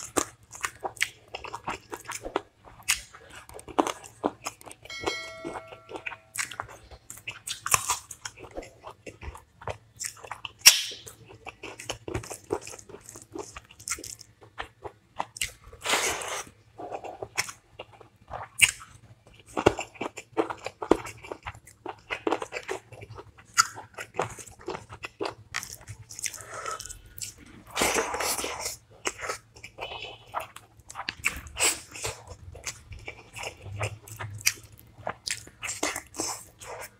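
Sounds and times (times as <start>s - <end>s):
person crunching and chewing: 0.0s - 4.9s, 6.0s - 36.9s.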